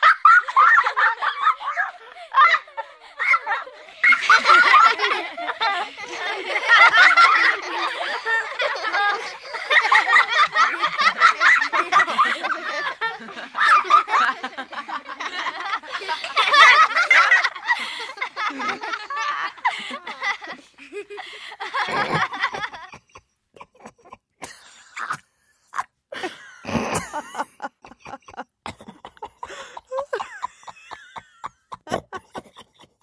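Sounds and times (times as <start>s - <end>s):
people laughing: 0.0s - 33.0s.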